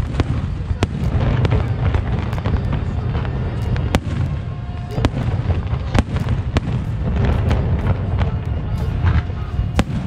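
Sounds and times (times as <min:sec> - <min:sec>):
fireworks rumbling and cracking: 0:00.0 - 0:10.0.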